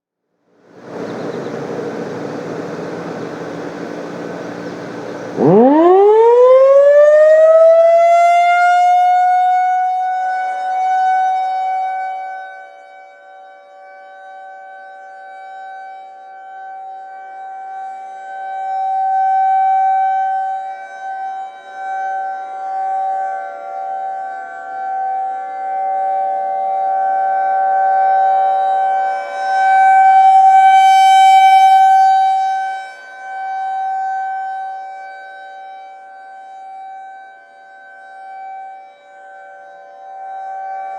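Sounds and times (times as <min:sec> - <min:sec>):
outdoor warning siren: 0:00.4 - 0:40.9.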